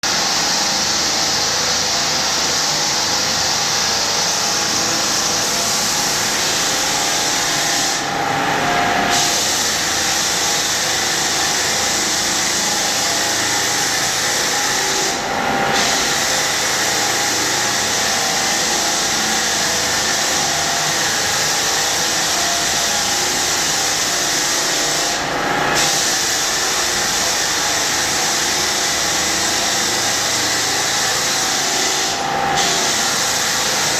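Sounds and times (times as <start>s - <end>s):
dust extraction vacuum: 0.0s - 33.9s
floor sander running: 0.0s - 33.9s.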